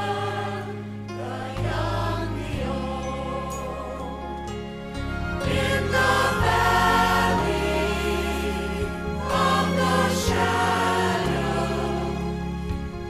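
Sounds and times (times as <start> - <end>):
church choir singing in parts: 0.0 - 13.0
sustained low accompaniment notes: 0.0 - 13.0.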